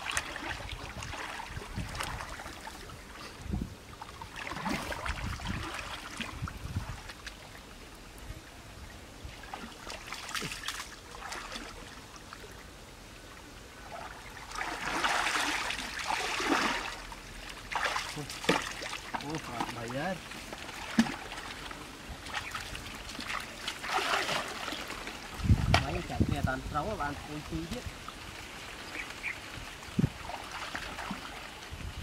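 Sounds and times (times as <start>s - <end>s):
water sloshing and splashing: 0.0s - 8.3s, 9.2s - 12.8s, 13.7s - 32.0s.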